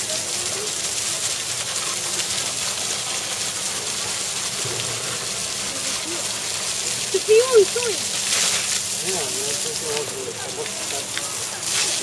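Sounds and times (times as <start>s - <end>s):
hose water jet spraying: 0.0s - 12.0s.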